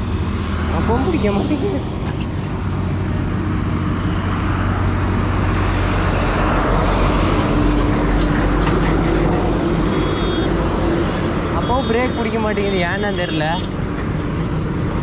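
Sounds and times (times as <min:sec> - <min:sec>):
highway traffic drone: 0:00.0 - 0:15.0.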